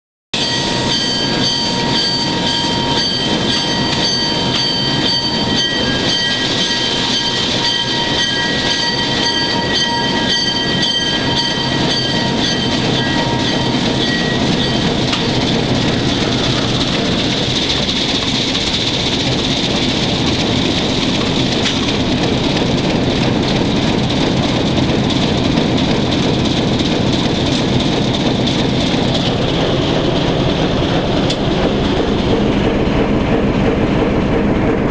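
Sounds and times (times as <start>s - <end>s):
diesel locomotive engine rumbling: 0.4s - 34.9s.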